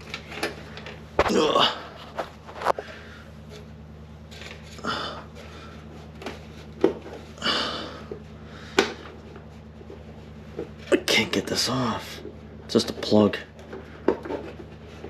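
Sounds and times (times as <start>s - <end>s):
rustling and scraping plastic: 0.0s - 7.4s, 8.1s - 15.0s
steady low hum: 0.0s - 15.0s.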